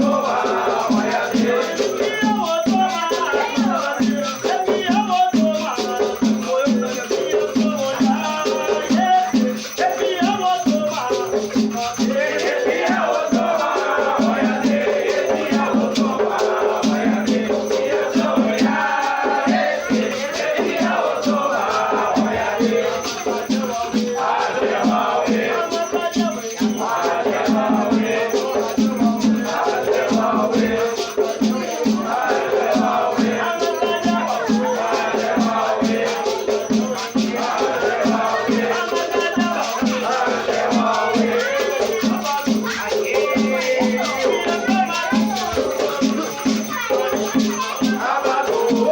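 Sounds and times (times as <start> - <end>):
drum beaten in fast rhythm: 0.0 - 48.9
rattle shaking: 0.0 - 48.9
voices chanting: 0.0 - 48.9.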